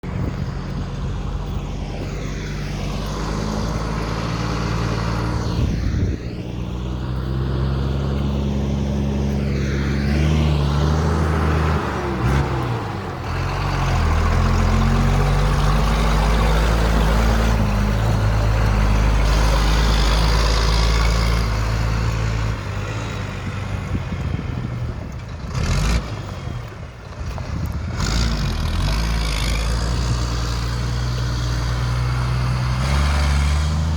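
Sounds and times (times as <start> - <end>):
loud diesel engine revving: 2.3 - 33.9.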